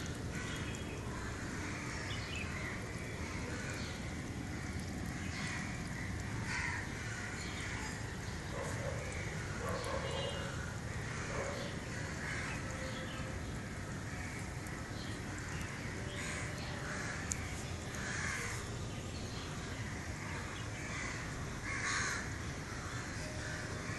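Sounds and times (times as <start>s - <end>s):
birds calling: 0.0s - 23.9s
steady low background noise: 0.0s - 23.9s.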